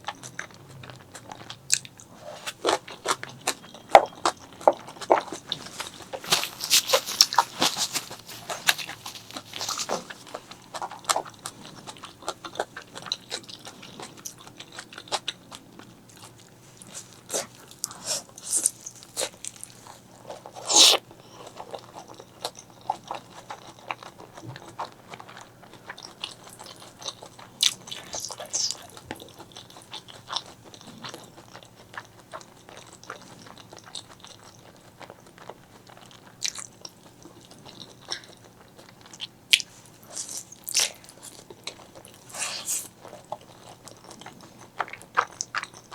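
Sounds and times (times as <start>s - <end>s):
close chewing and crunching: 0.0s - 45.9s.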